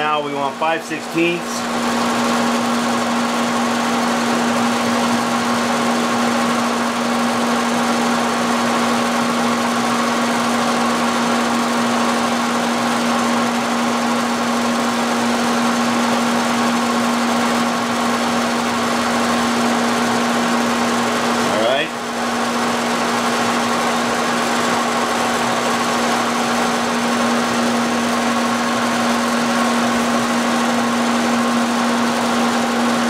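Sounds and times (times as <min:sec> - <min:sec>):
milling machine humming: 0:00.0 - 0:33.0.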